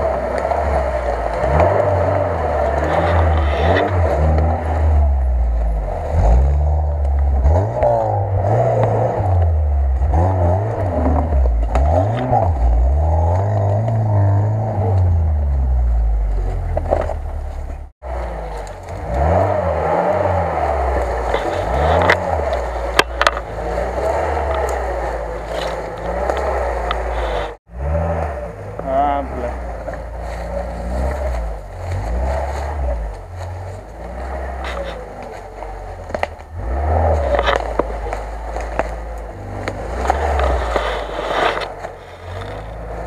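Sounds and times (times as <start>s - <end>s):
scrapes: 0.0s - 15.6s, 16.3s - 43.0s
car engine revving: 0.0s - 43.0s.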